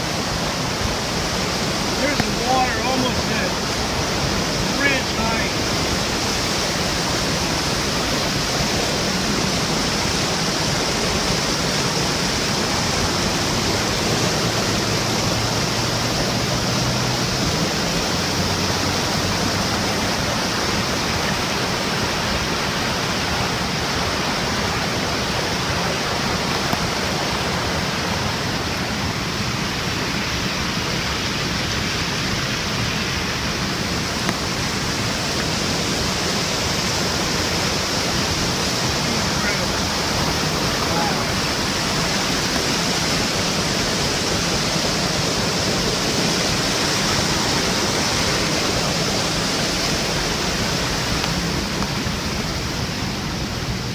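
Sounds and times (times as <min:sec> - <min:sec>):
floodwater rushing: 0:00.0 - 0:53.9.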